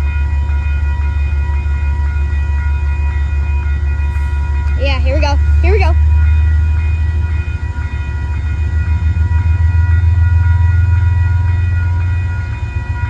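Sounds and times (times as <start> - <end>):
locomotive engine rumbling: 0.0 - 13.0.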